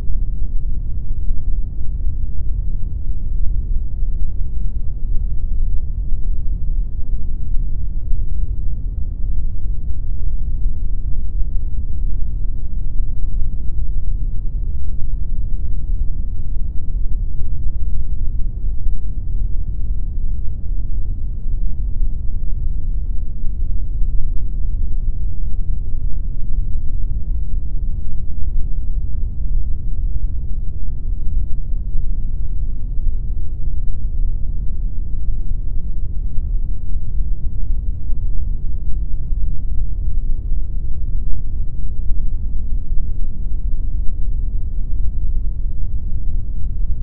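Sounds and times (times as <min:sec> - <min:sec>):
steady pink noise: 0:00.0 - 0:47.0.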